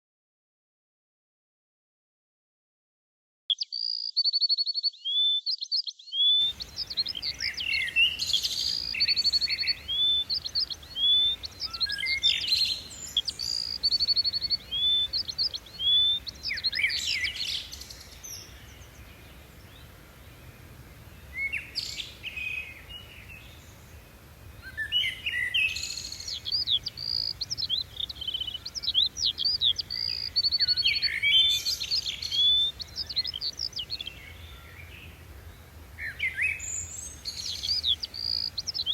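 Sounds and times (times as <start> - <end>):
songbirds singing and calling: 3.5 - 38.9.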